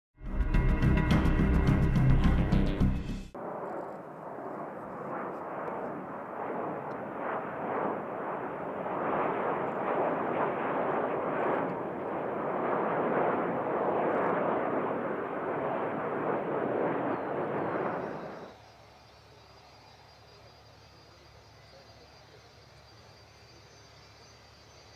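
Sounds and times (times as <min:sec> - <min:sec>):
jets flying overhead: 0:03.3 - 0:24.9.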